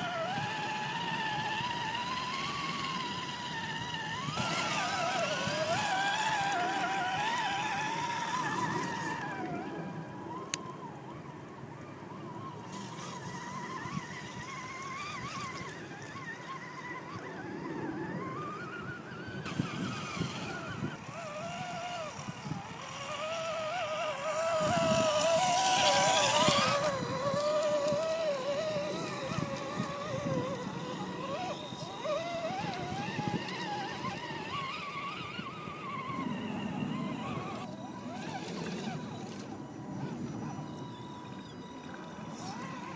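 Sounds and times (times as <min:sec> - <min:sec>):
rc car electric motor whine: 0:00.0 - 0:42.9.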